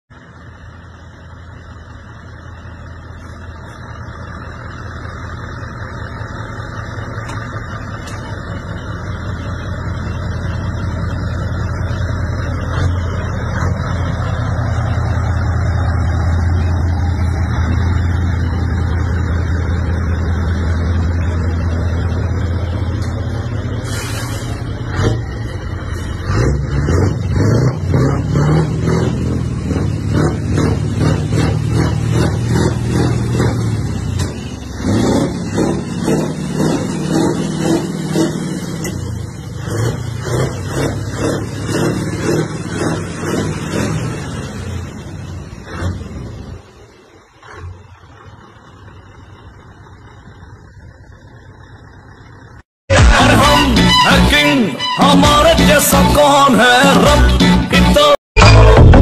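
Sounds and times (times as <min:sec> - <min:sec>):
truck engine rumbling: 0:00.0 - 0:59.0.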